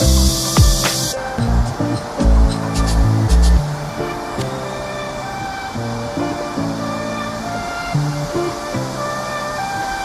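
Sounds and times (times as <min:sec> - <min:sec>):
melody of held notes: 0:00.0 - 0:10.0
steady hiss: 0:00.0 - 0:10.0.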